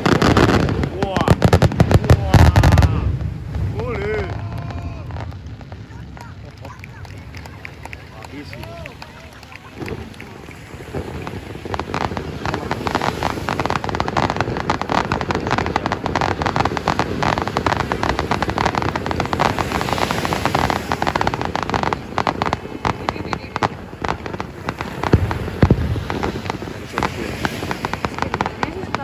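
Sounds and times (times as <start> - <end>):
firework booms: 0.0 - 29.0
fireworks crackling: 0.0 - 29.0.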